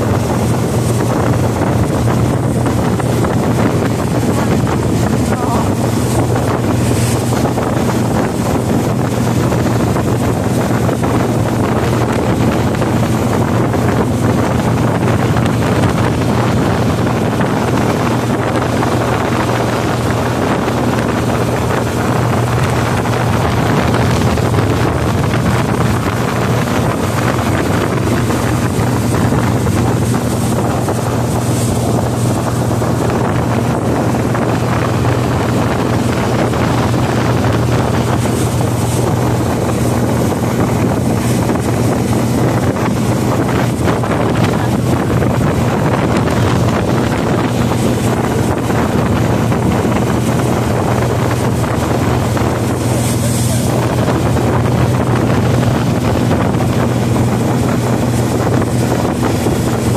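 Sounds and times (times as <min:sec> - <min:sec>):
boat engine humming: 0:00.0 - 0:59.9
rushing boat wake: 0:00.0 - 0:59.9
wind buffeting microphone: 0:00.0 - 0:59.9.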